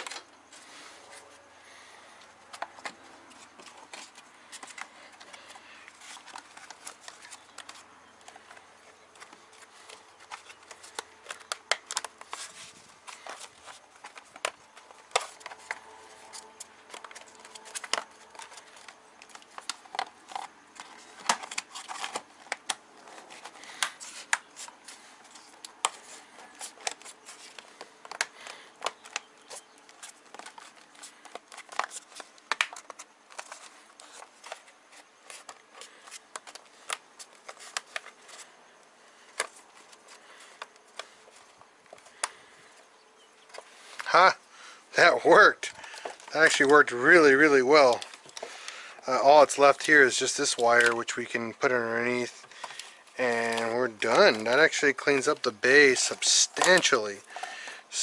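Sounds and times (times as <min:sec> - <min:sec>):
plastic parts clicking and rustling: 0:00.0 - 0:58.0.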